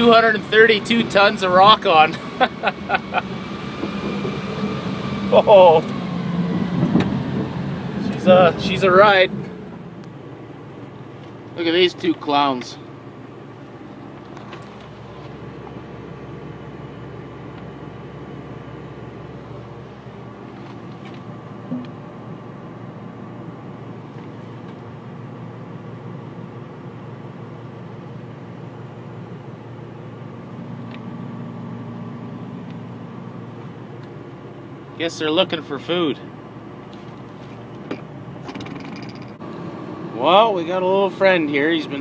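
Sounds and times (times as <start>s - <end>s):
diesel engine humming: 0.0s - 42.0s.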